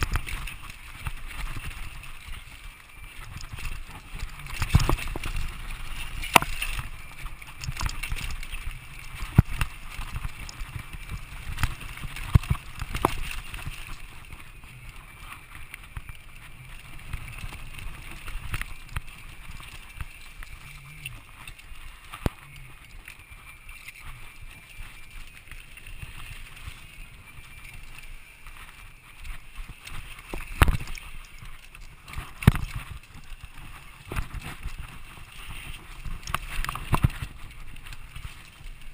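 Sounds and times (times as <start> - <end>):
bike rattling over bumps: 0.0 - 38.9
tyres rolling on dirt: 0.0 - 38.9
wind on camera microphone: 0.0 - 38.9.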